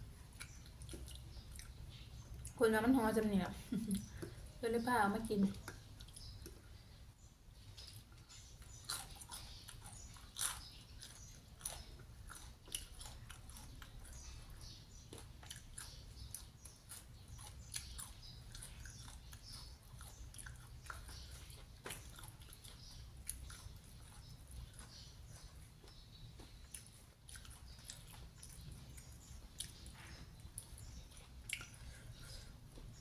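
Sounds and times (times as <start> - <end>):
person chewing food: 0.0 - 2.6, 3.7 - 4.6, 5.5 - 33.0.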